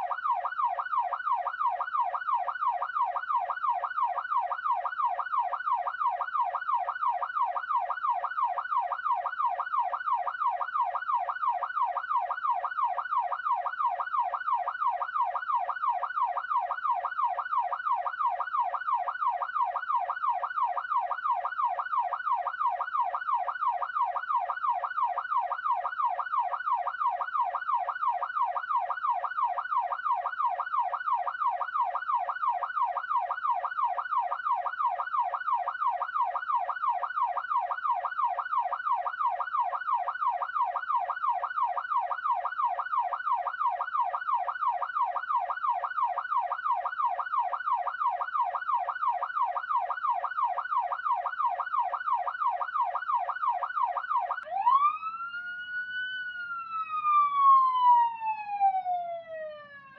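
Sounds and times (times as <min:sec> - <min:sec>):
police siren yelping: 0:00.0 - 0:59.9.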